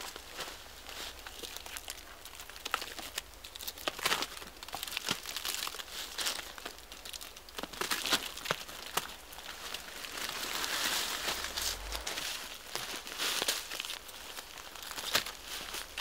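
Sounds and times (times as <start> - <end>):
bark cracking and tearing: 1.1 - 16.0.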